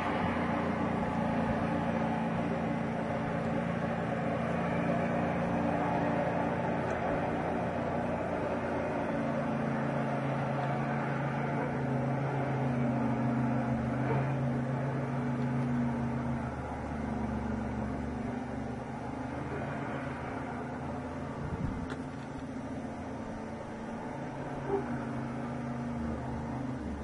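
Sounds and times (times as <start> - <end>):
vehicle engine droning under load: 0.0 - 27.0.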